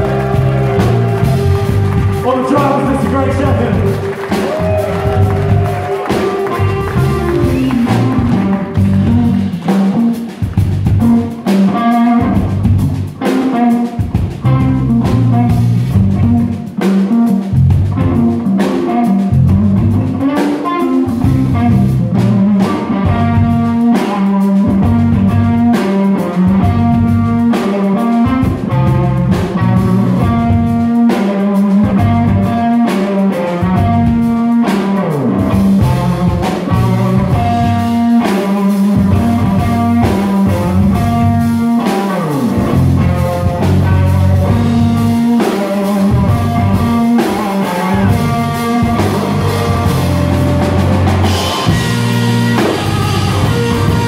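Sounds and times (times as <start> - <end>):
blues-rock band playing: 0.0 - 54.0.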